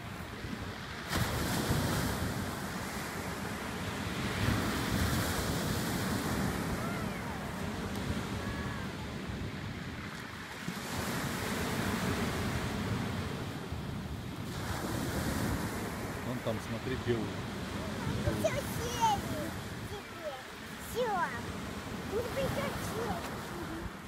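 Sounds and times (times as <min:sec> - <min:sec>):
sea waves washing ashore: 0:00.0 - 0:24.0
wind buffeting microphone: 0:00.0 - 0:24.0.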